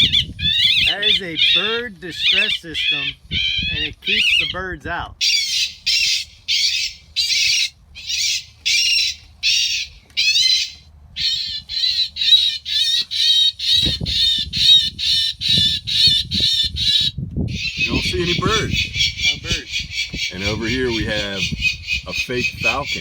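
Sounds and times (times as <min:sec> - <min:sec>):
bird distress calls over loudspeaker: 0:00.0 - 0:23.0.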